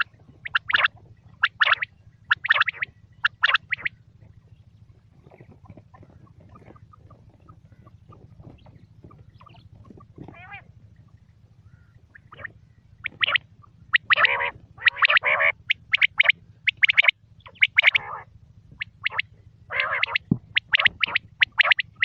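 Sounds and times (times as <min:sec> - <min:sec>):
quail calling: 0:00.0 - 0:04.3, 0:05.0 - 0:22.0.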